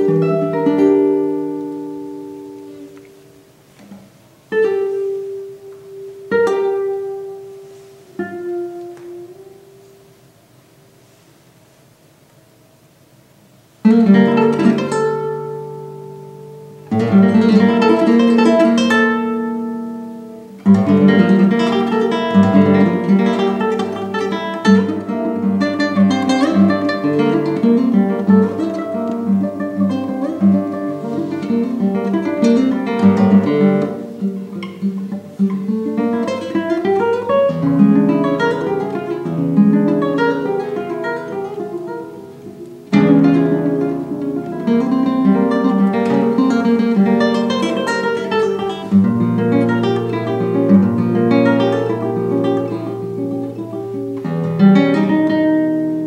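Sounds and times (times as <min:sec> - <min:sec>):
classical guitar playing: 0:00.0 - 0:11.4, 0:13.7 - 0:56.0.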